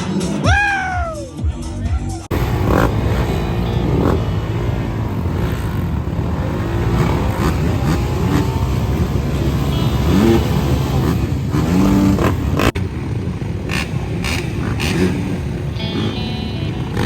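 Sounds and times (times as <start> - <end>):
motocross bike engines revving: 1.6 - 17.0.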